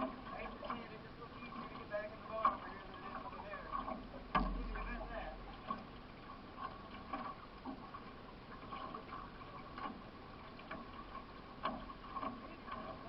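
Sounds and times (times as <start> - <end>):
paddle strokes: 0.0 - 13.0
water noise: 0.0 - 13.0.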